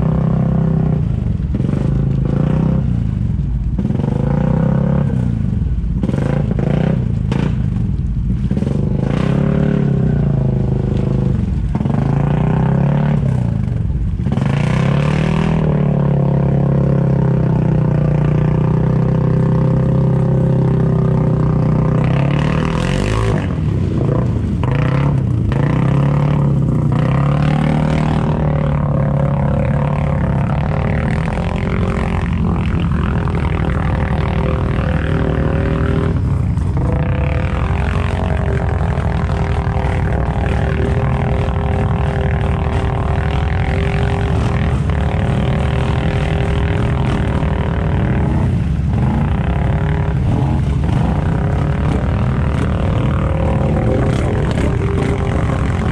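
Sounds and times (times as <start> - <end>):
atv engines revving: 0.0 - 55.9.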